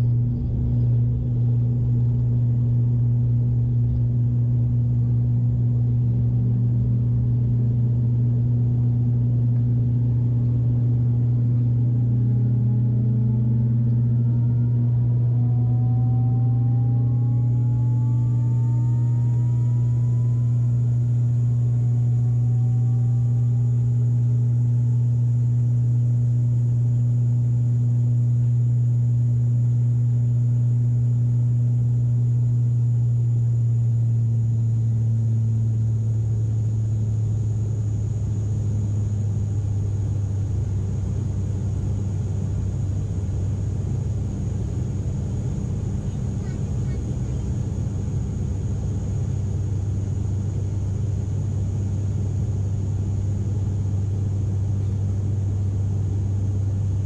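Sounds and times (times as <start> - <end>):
propeller drone in cabin: 0.0 - 57.0.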